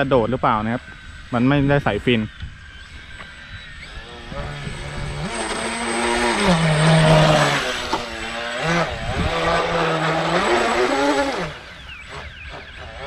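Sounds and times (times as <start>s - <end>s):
rc boat motor whine: 0.0s - 13.0s.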